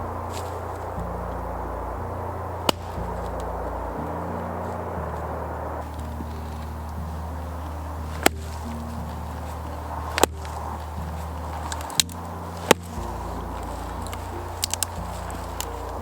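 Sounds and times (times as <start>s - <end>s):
low drone with sustained notes: 0.0s - 16.0s.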